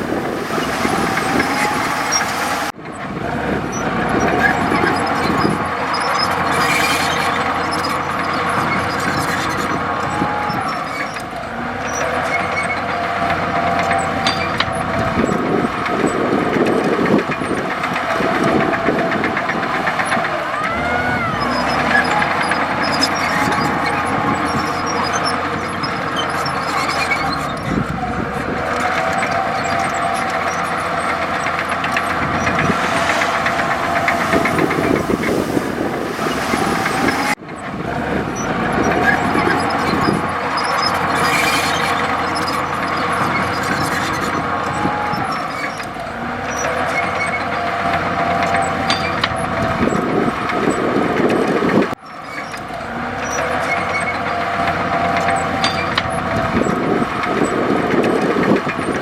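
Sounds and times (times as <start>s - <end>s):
short squeal: 0.0s - 3.0s, 3.6s - 37.4s, 38.4s - 50.2s, 51.9s - 58.2s
bulldozer diesel engine running: 0.0s - 59.0s.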